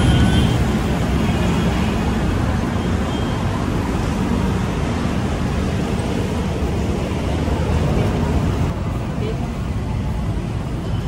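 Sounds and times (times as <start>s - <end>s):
passing cars and motorbikes: 0.0s - 11.0s.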